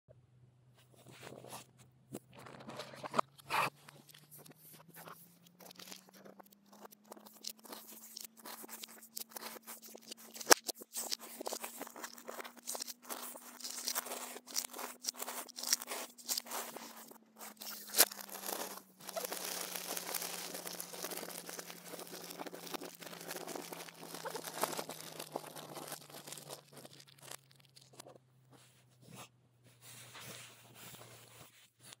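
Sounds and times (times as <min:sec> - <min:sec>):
puzzle pieces crackling and snapping: 0:02.4 - 0:28.2.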